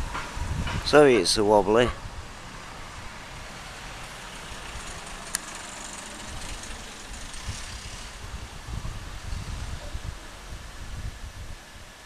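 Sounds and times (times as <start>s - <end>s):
broad hiss: 0.0s - 12.0s.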